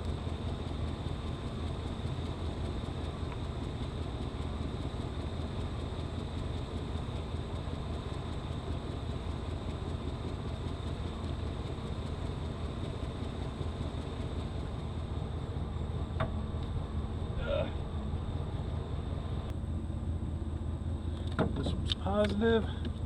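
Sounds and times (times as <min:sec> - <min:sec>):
pickup truck engine idling: 0:00.0 - 0:19.5.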